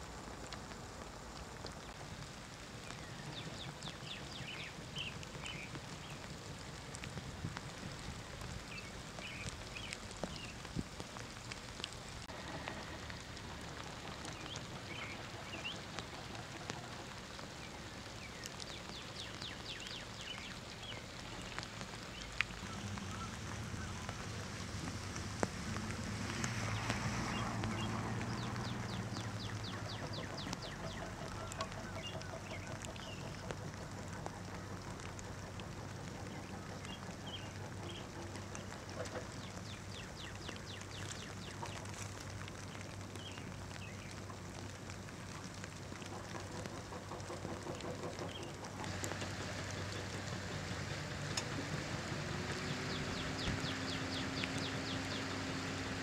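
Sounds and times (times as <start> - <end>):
rain hissing over floodwater: 0.0 - 56.0
bird calls: 2.8 - 6.4, 8.4 - 10.7, 12.3 - 24.7, 26.6 - 44.4, 46.0 - 51.6, 52.4 - 56.0.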